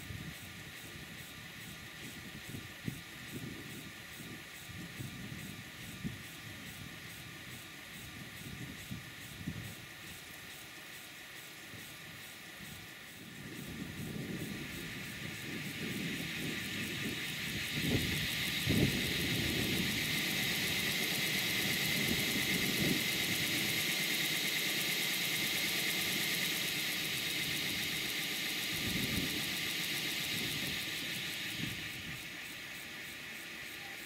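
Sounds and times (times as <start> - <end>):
steam hissing: 0.0 - 34.0.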